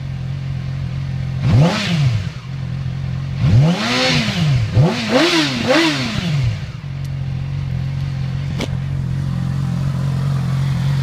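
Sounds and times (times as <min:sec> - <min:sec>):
motorcycle engine revving and idling: 0:00.0 - 0:11.0.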